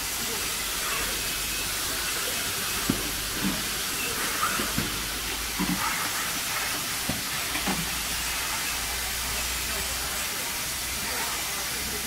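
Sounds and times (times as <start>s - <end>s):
steady machine hiss: 0.0s - 12.0s.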